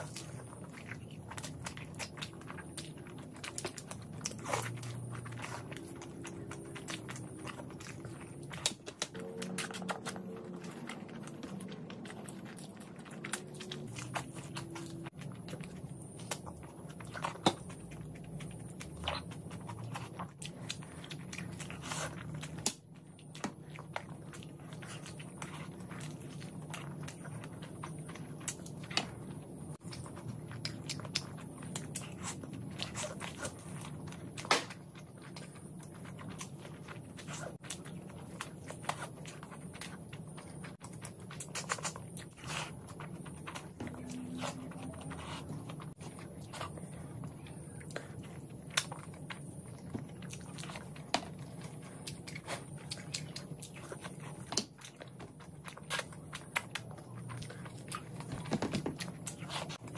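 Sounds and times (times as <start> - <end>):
steady low hum: 0.0 - 59.9
wet chewing and lip-smacking: 0.0 - 59.9.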